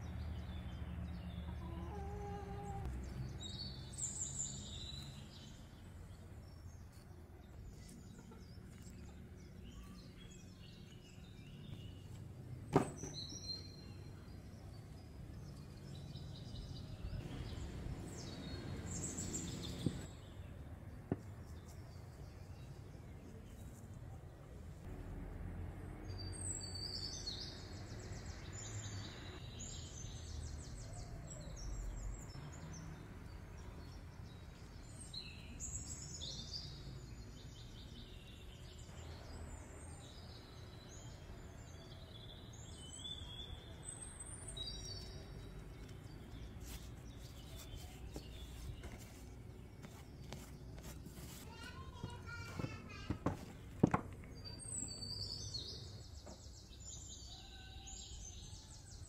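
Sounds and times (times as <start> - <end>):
small birds chirping and trilling: 0.0 - 24.4, 26.0 - 59.0.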